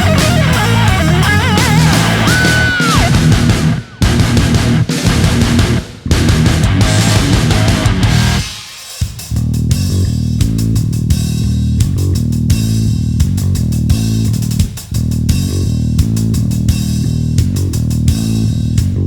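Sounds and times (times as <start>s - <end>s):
rock music with bass and guitar: 0.0s - 8.6s, 9.3s - 19.0s.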